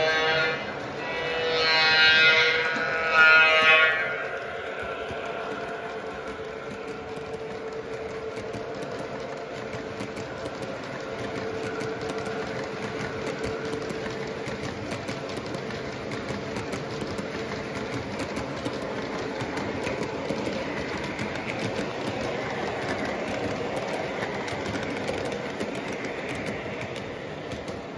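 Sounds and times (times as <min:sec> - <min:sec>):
steady train hum: 0:00.0 - 0:27.9
train wheels clattering over track: 0:00.0 - 0:27.9.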